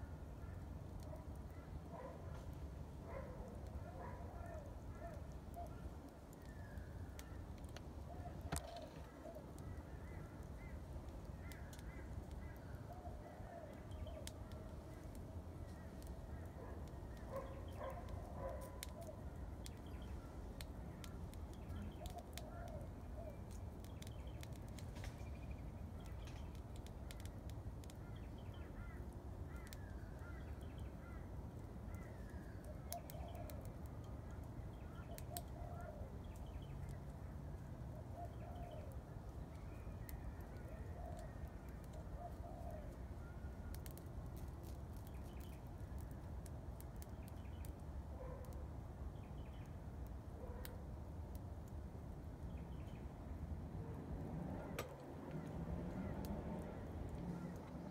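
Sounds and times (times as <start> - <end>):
fire crackling: 0.0 - 57.9.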